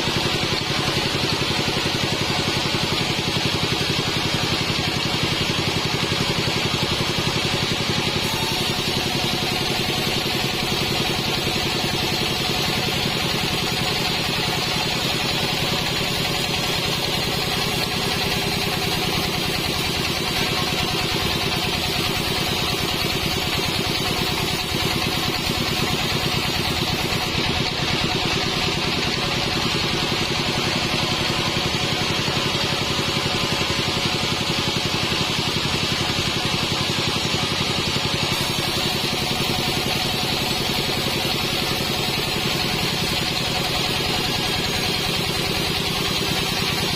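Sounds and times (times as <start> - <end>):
sawmill engine running: 0.0 - 46.9.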